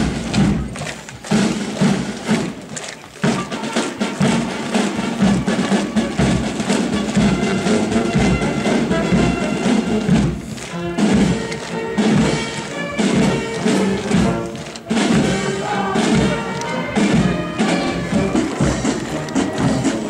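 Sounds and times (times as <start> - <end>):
bass drum beat: 0.0 - 20.0
marching band playing: 0.0 - 20.0.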